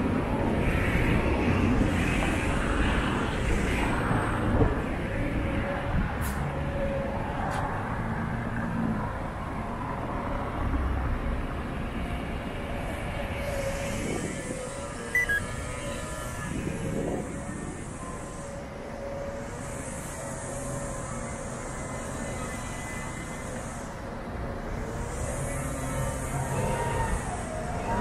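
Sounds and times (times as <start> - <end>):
city traffic roar: 0.0 - 28.0.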